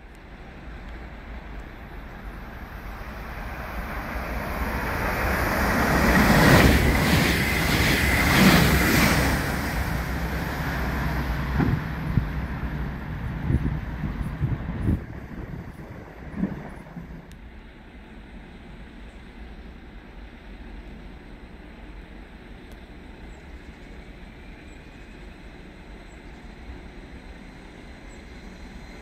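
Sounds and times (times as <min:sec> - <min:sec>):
train high steady whine: 0:00.0 - 0:29.0
train wheels rumbling on rails: 0:00.0 - 0:29.0.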